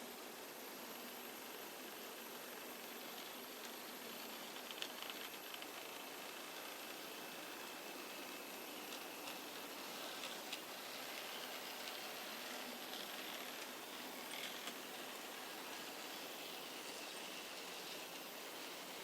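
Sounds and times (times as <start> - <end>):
model railcar motor whir: 0.0 - 19.0.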